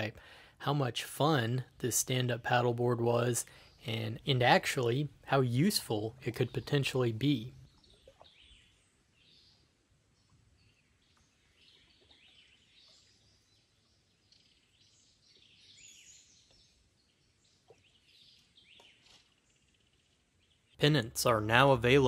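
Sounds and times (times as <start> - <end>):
small birds chirping: 1.4 - 21.6.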